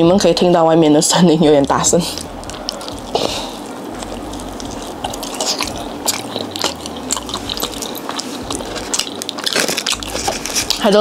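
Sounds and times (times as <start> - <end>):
low rumble of outside noise: 0.0 - 11.0
chewing chicken wings: 1.2 - 11.0.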